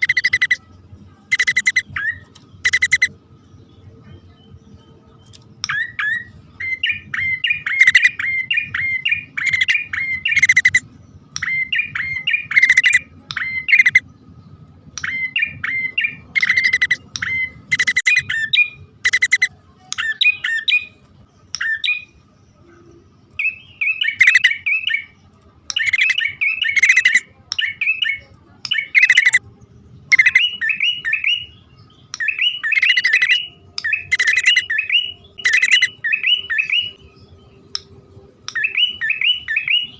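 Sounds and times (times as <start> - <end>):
birds calling sharp chirps: 0.0 - 29.4, 30.1 - 37.9, 38.5 - 39.9.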